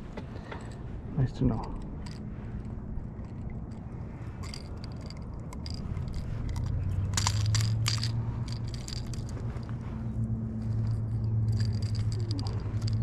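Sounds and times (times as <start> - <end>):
light clicks and rattles: 0.0 - 13.0
steady low rumble: 0.0 - 13.0.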